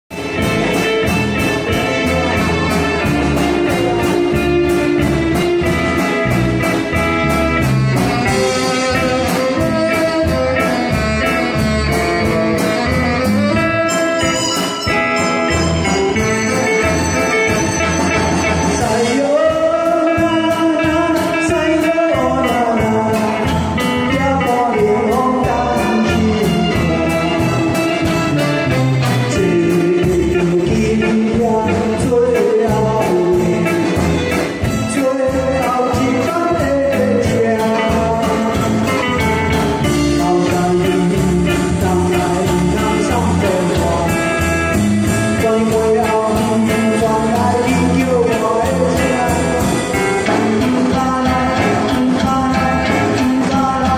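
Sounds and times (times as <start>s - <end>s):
band playing instrumental: 0.0s - 53.9s
drums steady beat: 0.1s - 53.9s.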